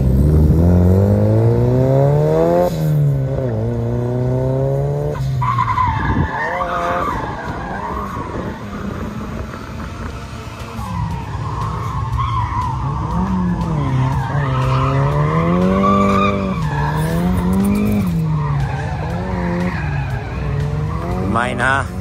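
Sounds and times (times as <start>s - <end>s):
car engine revving: 0.0s - 22.0s
tyres skidding and squealing: 0.0s - 22.0s.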